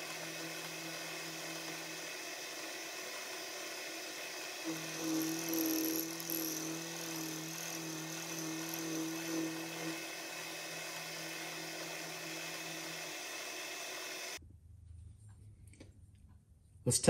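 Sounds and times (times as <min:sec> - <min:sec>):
milling machine spindle running: 0:00.0 - 0:14.4.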